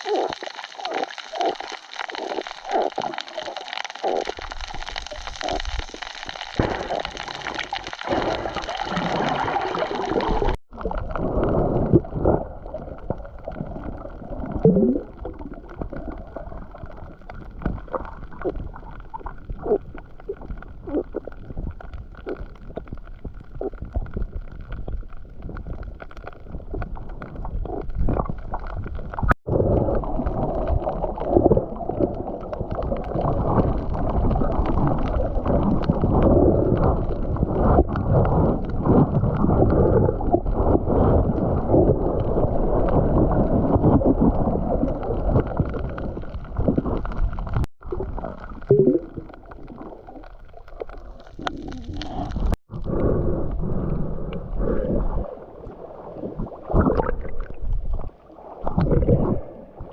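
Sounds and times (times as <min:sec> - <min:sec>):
muffled water gurgling: 0:00.0 - 0:59.9.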